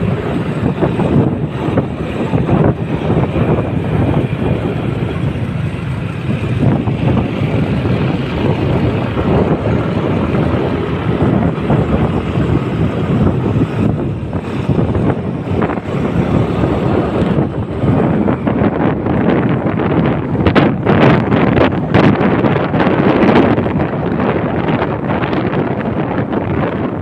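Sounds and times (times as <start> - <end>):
vehicle engine running: 0.0 - 27.0
wind buffeting microphone: 0.0 - 27.0.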